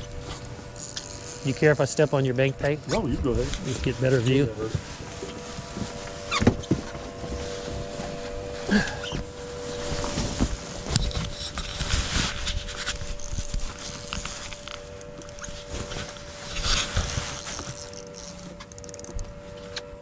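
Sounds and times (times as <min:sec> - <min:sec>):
electric trolling motor hum: 0:00.0 - 0:20.0.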